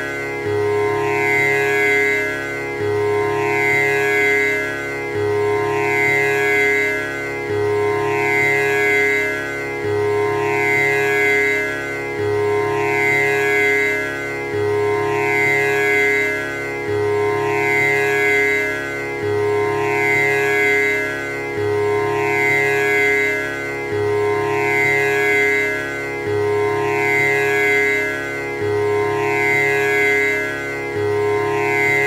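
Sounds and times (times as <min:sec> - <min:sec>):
tanpura drone: 0:00.0 - 0:32.0.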